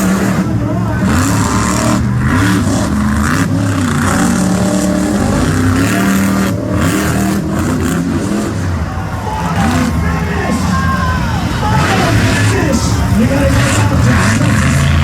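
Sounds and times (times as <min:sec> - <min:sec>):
monster truck engines revving: 0:00.0 - 0:15.0.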